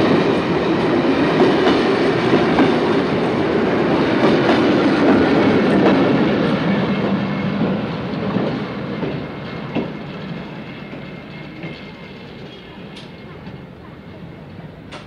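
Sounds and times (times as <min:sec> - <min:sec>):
train wheels clattering: 0:00.0 - 0:13.6.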